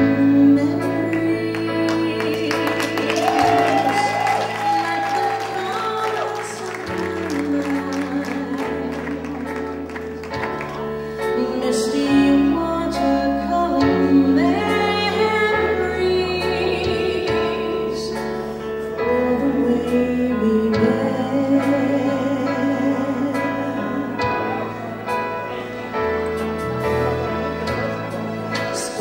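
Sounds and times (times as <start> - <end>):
woman singing with vibrato: 0.0 - 10.2, 11.2 - 24.9
instrumental accompaniment with bass: 0.0 - 29.0.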